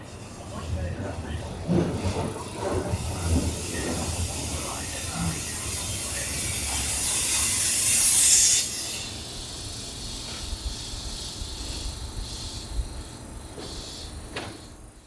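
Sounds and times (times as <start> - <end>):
train air brake hiss: 2.9 - 15.0.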